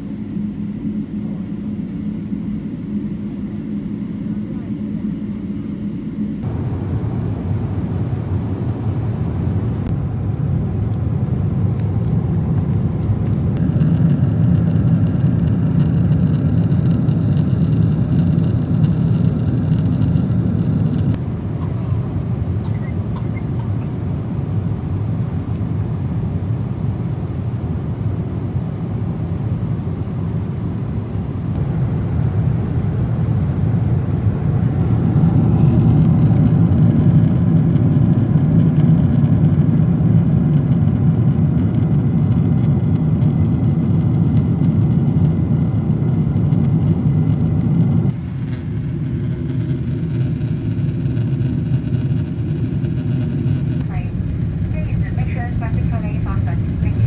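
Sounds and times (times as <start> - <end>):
jet airliner cabin roar: 0.0 - 57.0.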